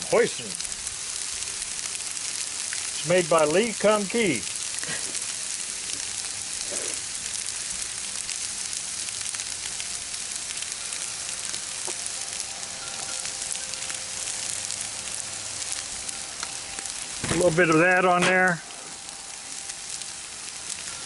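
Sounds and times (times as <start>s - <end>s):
food sizzling on a griddle: 0.0s - 21.0s
sauce popping: 0.0s - 21.0s.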